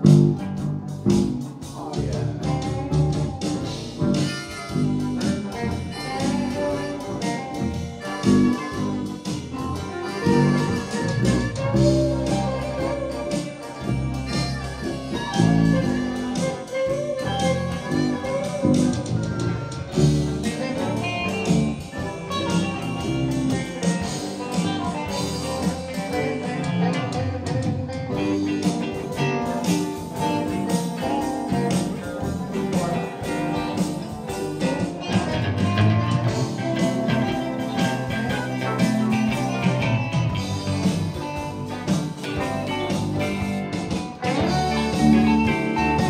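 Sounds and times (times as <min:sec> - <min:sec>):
band playing: 0:00.0 - 0:46.0
electric guitar lines: 0:00.0 - 0:46.0.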